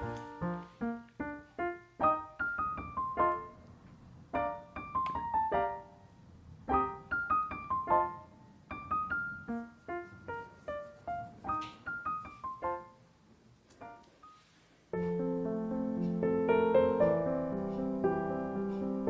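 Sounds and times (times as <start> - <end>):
gentle solo piano: 0.0 - 13.1, 13.7 - 19.0.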